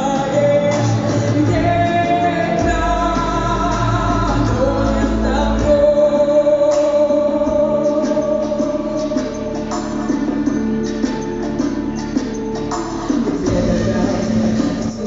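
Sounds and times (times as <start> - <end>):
person singing: 0.0 - 10.8, 13.3 - 15.0
instrumental backing music: 0.0 - 15.0.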